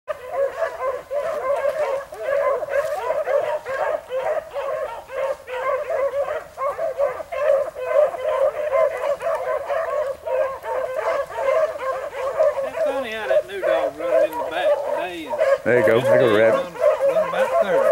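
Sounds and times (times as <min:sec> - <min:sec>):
pack of dogs baying: 0:00.1 - 0:17.9.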